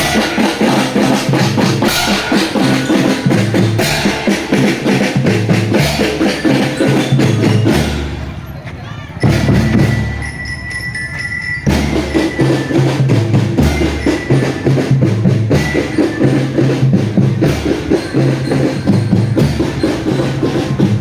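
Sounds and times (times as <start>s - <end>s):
marching drum band playing: 0.0s - 21.0s.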